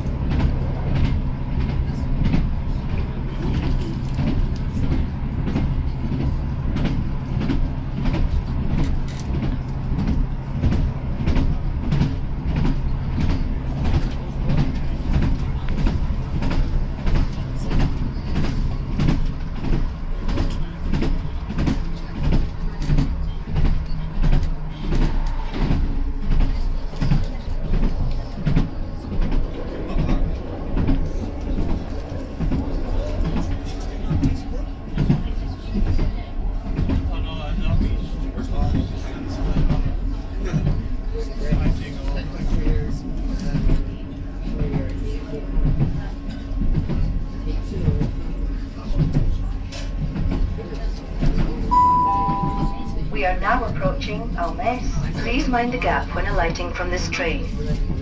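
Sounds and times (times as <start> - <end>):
train wheels clicking on track: 0.0 - 58.0.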